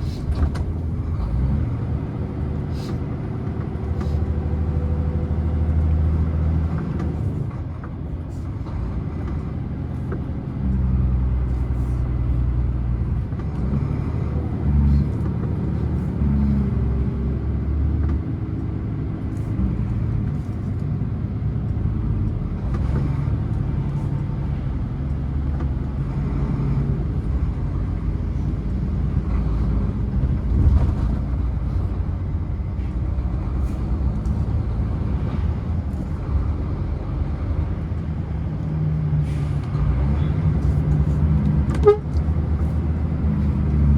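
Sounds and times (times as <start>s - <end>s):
diesel truck engine droning: 0.0s - 43.9s.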